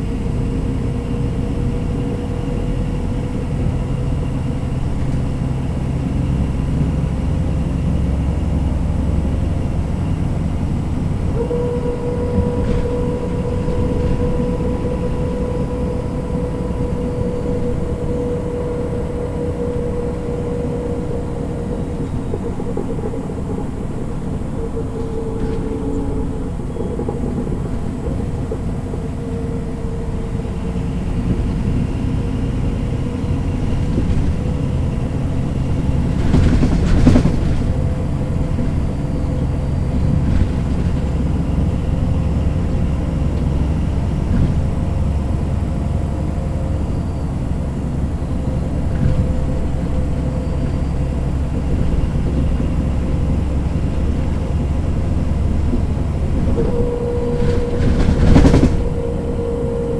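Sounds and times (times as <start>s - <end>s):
bus diesel engine rumbling: 0.0s - 59.9s
steady whine: 0.0s - 59.9s.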